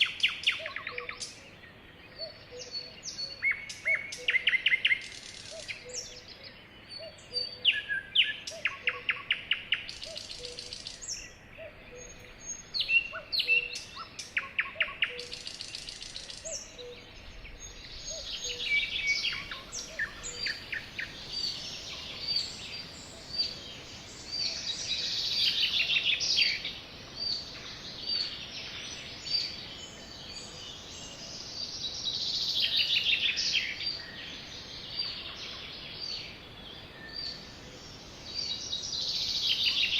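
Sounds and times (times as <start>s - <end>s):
sparrows chirping and trilling: 0.0s - 39.9s.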